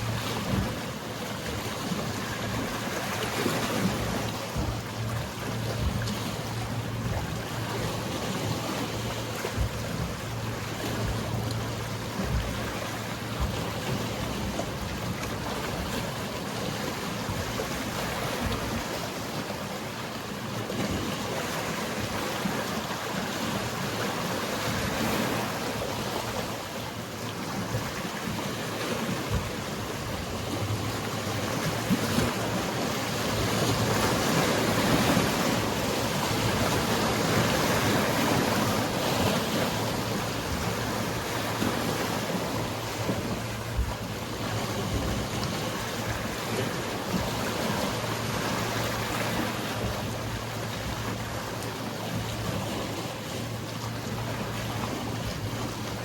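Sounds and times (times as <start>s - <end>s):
boat engine humming: 0.0s - 56.0s
sea waves washing: 0.0s - 56.0s.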